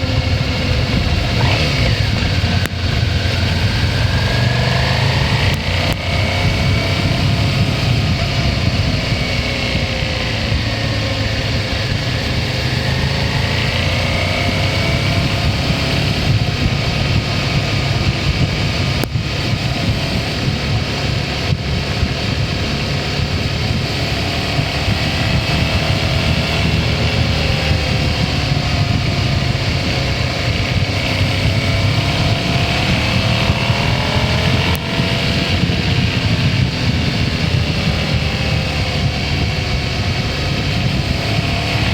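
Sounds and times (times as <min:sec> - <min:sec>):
low wind rumble: 0:00.0 - 0:41.9
motorcycle engine running: 0:00.0 - 0:41.9.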